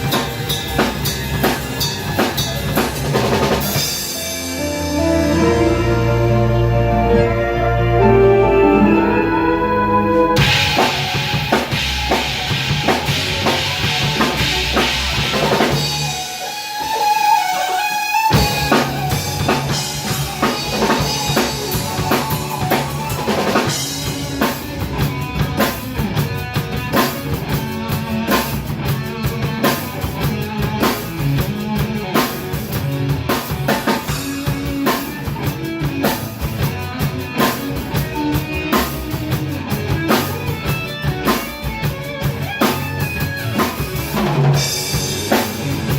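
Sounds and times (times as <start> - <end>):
bass: 0.0 - 16.4, 18.3 - 45.9
drum kit: 0.0 - 45.9
keyboards: 0.0 - 45.9.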